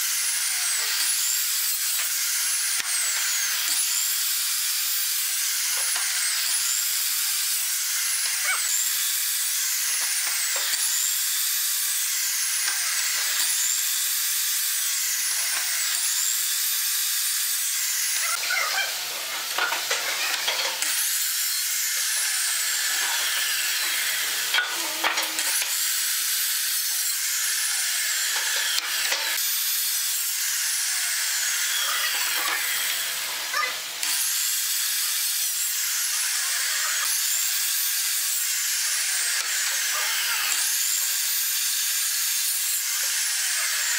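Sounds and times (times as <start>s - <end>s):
saw blade rasping through wood: 0.0s - 29.7s, 30.3s - 43.9s
miter saw motor whining: 0.0s - 43.9s.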